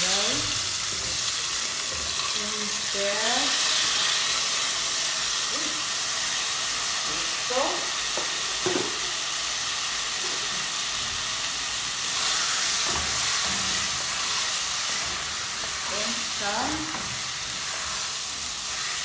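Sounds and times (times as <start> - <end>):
rice sizzling in oil: 0.0 - 19.0.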